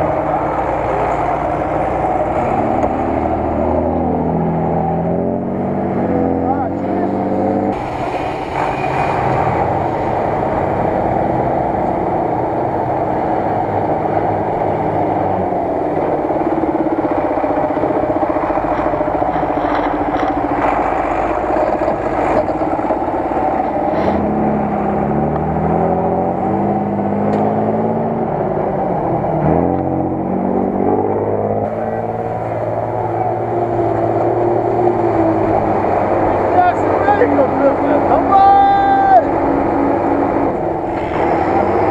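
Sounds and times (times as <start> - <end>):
truck engine revving: 0.0 - 41.9.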